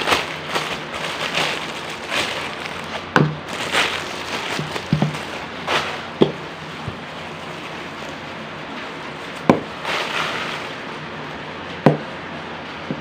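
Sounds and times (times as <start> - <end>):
packaging crinkling: 0.0 - 10.9.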